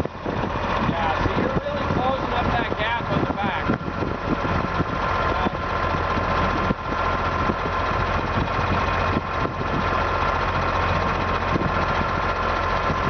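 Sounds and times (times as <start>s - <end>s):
heavy engine idling: 0.0s - 13.0s.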